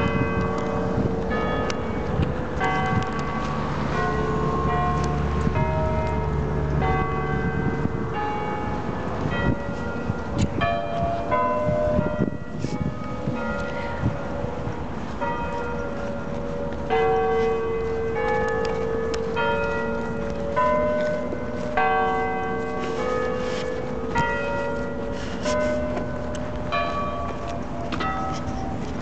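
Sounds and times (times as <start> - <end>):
church bells ringing: 0.0 - 29.0.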